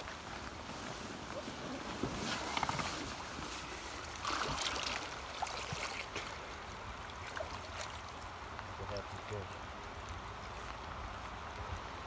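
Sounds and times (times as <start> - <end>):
river water running: 0.0 - 12.0
water splashes: 0.0 - 12.0.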